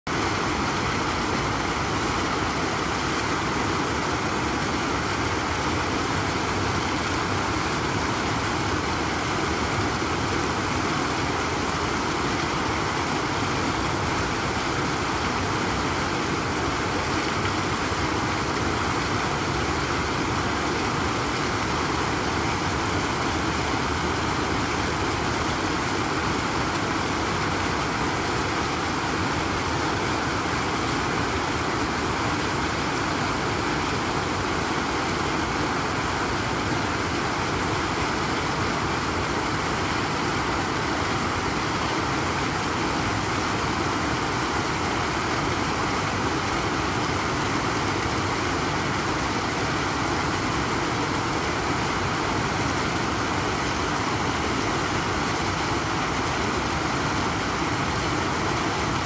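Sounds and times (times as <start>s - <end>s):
fountain water splashing into pool: 0.1s - 59.0s.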